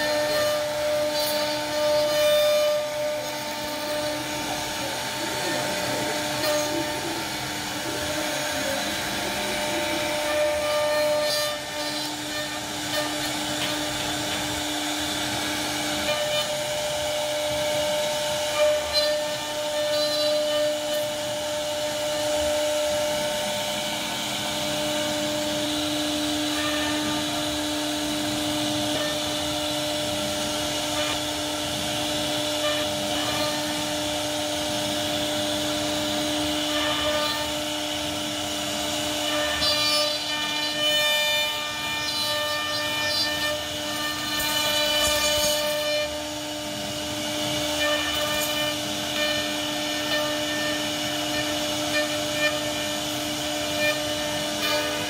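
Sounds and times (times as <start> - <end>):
cnc router spindle whine: 0.0 - 55.0
router bit cutting wood: 0.0 - 55.0.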